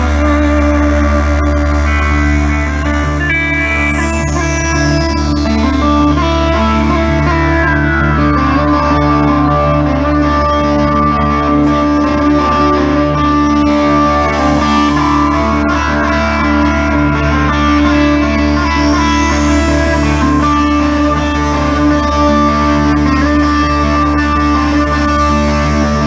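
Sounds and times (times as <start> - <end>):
blues-rock through a pa: 0.0 - 26.0
electric guitar droning notes: 0.0 - 26.0.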